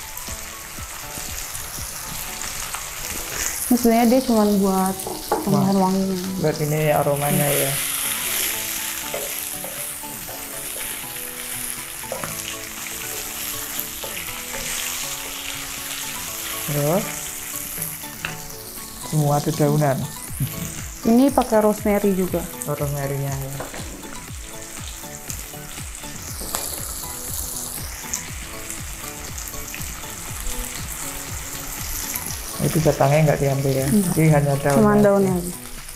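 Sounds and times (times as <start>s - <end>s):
mushrooms sizzling in oil: 0.0s - 35.9s.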